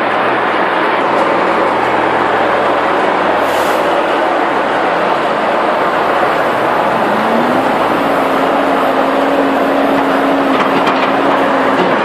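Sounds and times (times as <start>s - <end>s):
diesel engine running: 0.0s - 12.0s
heavy rushing noise: 0.0s - 12.0s.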